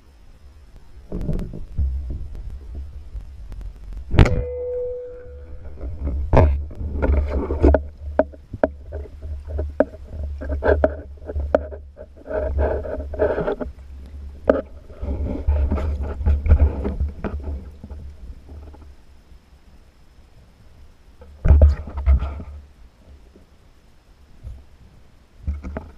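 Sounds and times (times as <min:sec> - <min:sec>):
underwater rumble of moving water: 0:00.0 - 0:25.9.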